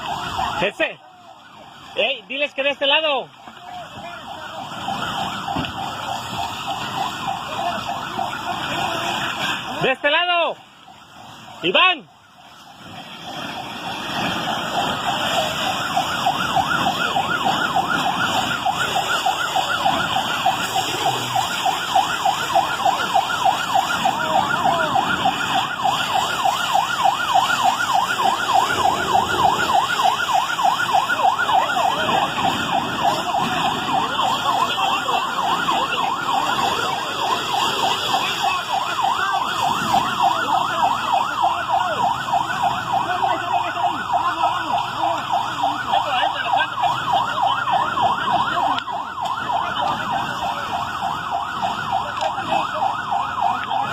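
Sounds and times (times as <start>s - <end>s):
ambulance siren yelping: 0.0s - 53.9s.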